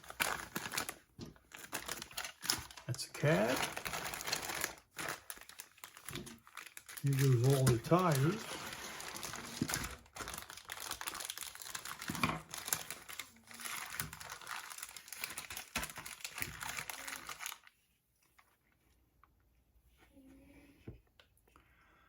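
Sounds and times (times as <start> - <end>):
plastic bag crinkling: 0.0 - 17.8.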